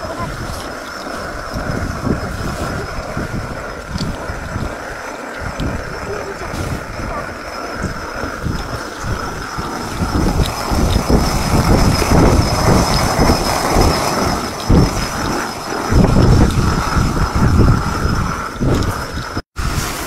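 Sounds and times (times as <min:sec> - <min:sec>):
stone quern grinding grain: 0:00.0 - 0:20.0.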